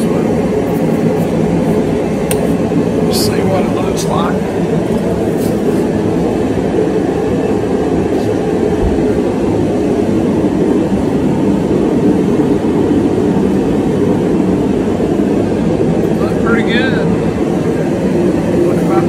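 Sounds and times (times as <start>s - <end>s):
loud mechanical drone: 0.0s - 19.0s.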